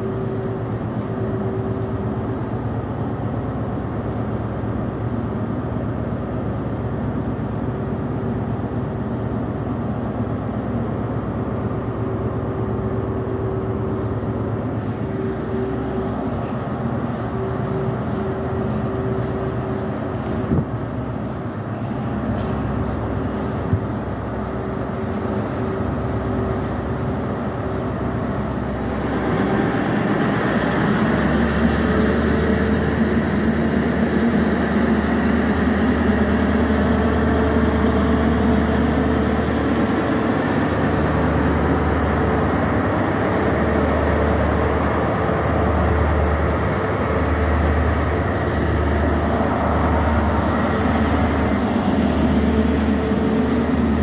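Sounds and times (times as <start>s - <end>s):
diesel locomotive engine drone: 0.0s - 54.0s
train rumble: 0.0s - 54.0s.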